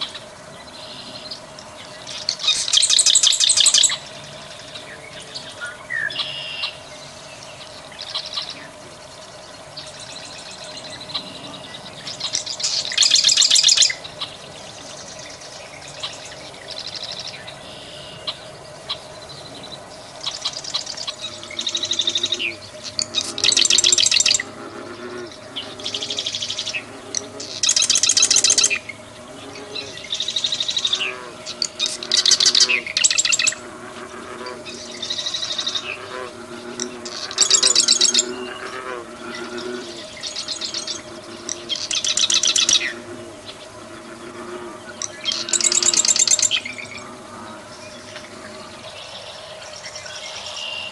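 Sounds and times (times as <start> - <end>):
marsh wren singing trills: 0.0 - 50.9.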